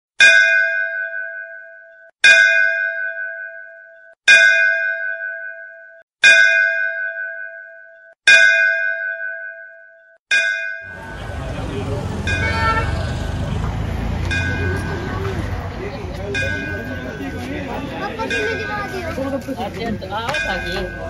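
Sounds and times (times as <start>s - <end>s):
temple bell ringing: 0.2s - 21.0s.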